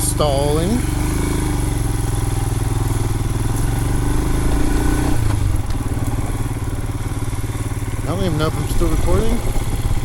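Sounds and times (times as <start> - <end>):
motorcycle engine idling low: 0.0 - 10.0.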